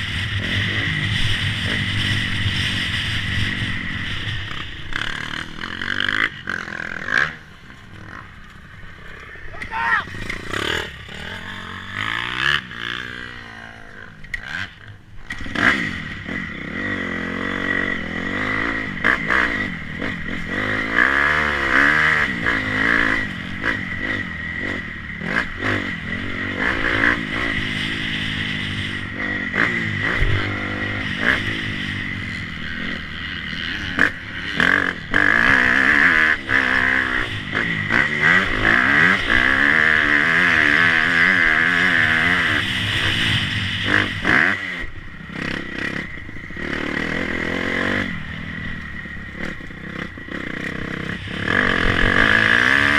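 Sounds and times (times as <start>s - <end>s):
motocross motorcycle engine revving: 0.0s - 52.9s.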